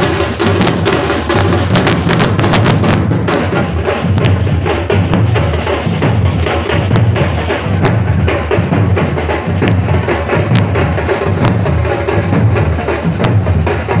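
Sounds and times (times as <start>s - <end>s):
deep bass drums: 0.0s - 14.0s
samba drum ensemble: 0.0s - 14.0s
sharp drum hits: 0.0s - 14.0s.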